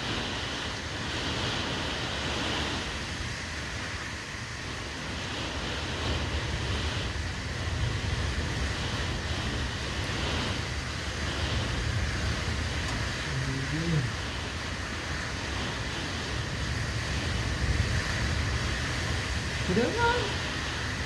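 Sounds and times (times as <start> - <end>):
gusting wind: 0.0 - 21.0.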